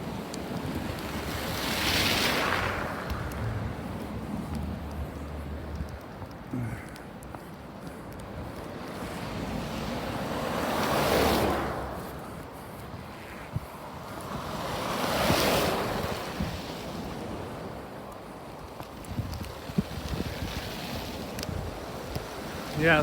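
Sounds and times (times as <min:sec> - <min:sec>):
wind on microphone: 0:00.0 - 0:06.4, 0:08.3 - 0:18.0, 0:18.6 - 0:23.0.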